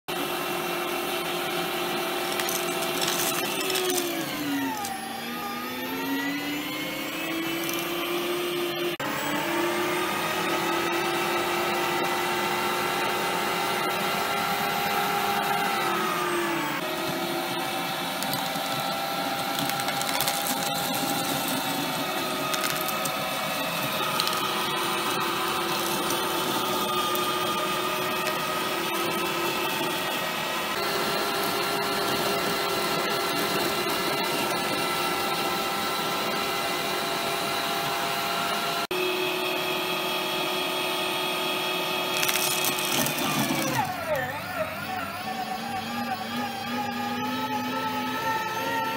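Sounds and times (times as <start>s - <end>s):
meat grinder motor whine: 0.1s - 48.9s.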